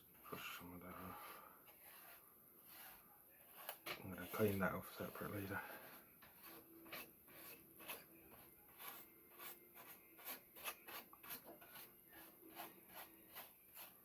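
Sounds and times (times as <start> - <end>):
soft brush sweeping: 0.3 - 14.0.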